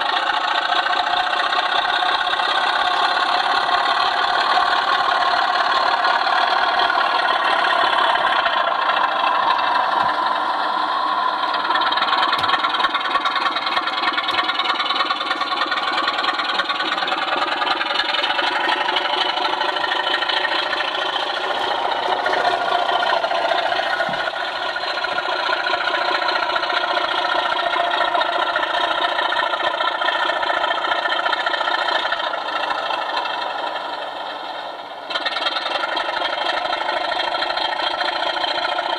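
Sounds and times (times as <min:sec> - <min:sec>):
diesel engine sound from small loudspeaker: 0:00.0 - 0:38.9.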